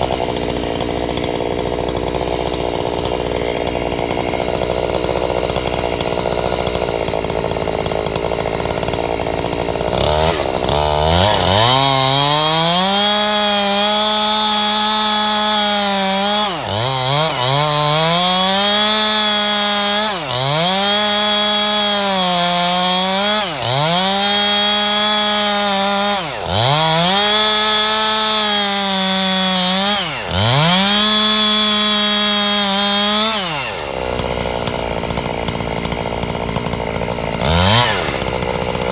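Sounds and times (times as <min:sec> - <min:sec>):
chainsaw cutting a log: 0:00.0 - 0:38.9.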